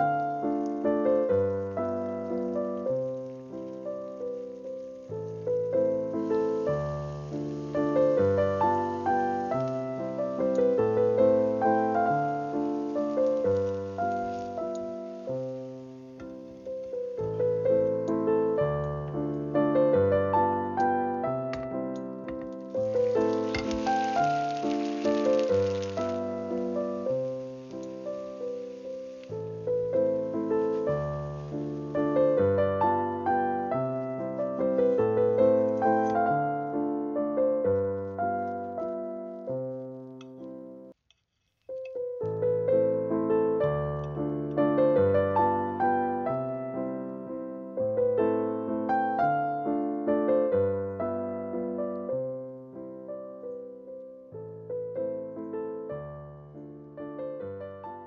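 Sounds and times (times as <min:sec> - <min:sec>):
piano music: 0:00.0 - 0:41.0, 0:41.7 - 0:58.0.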